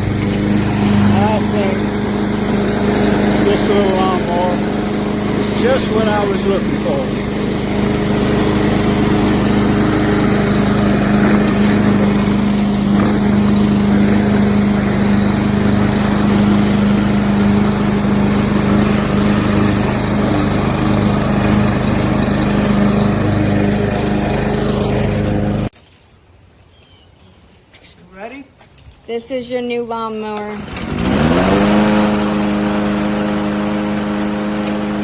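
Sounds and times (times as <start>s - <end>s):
lawn mower engine running: 0.0s - 25.8s, 30.2s - 35.0s.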